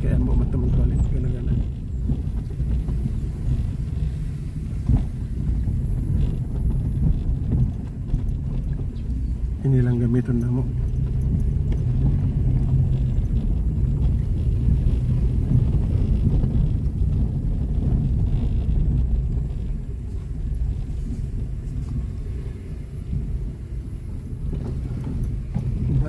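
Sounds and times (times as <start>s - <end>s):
car driving on dirt road: 0.0s - 26.0s.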